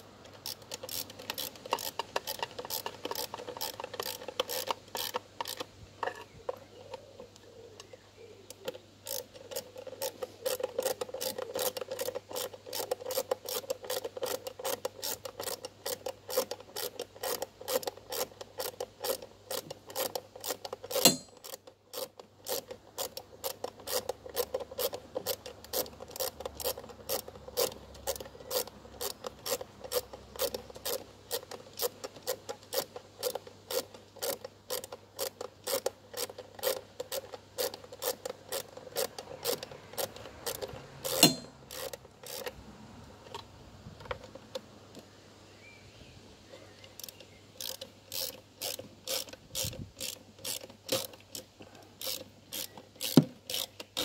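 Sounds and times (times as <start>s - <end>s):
socket ratchet clicking: 0.0s - 6.1s, 8.5s - 42.6s, 47.0s - 54.0s.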